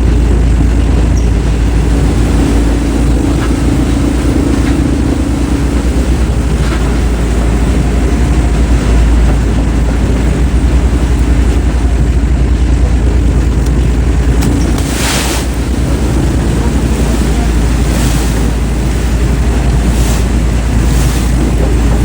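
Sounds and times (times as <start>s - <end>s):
steady hum: 0.0s - 22.0s
wood shredder rumbling: 0.0s - 22.0s.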